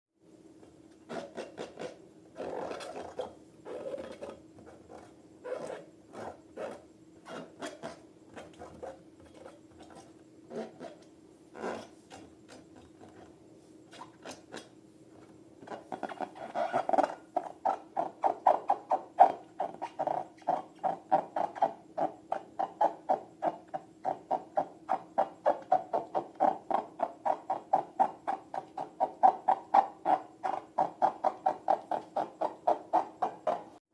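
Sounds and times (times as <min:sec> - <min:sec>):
faint steady hum: 0:00.2 - 0:33.8.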